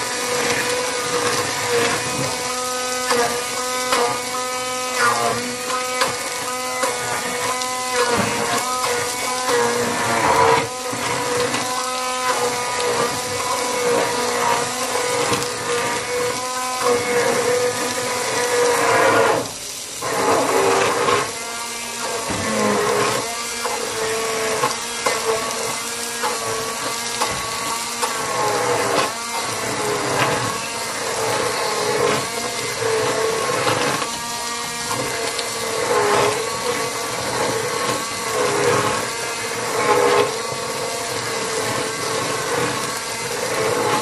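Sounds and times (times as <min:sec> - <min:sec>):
immersion blender motor whine: 0:00.0 - 0:44.0.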